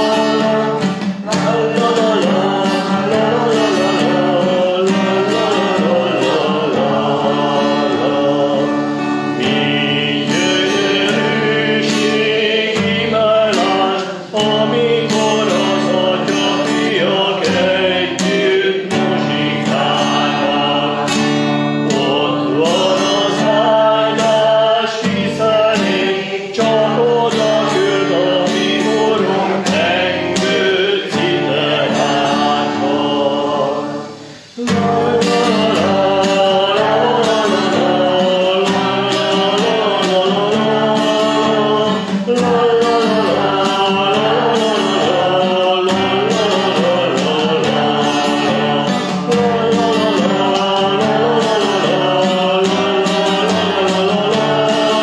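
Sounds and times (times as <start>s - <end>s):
hymn singing: 0.0s - 55.0s
strummed guitar: 0.0s - 55.0s.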